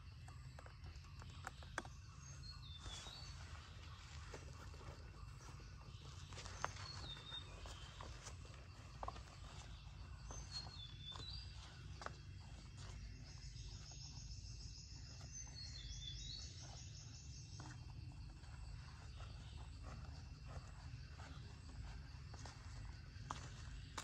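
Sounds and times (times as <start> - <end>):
birds calling: 0.0 - 24.0
bird trill: 1.1 - 23.6.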